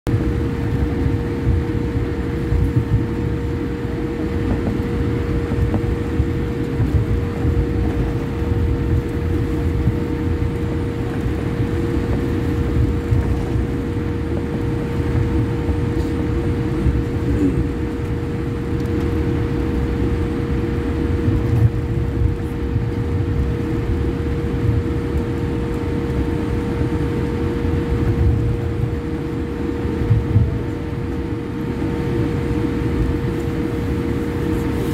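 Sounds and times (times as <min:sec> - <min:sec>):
airliner cabin rumble: 0:00.1 - 0:34.9
mid-pitched hum: 0:00.1 - 0:34.9.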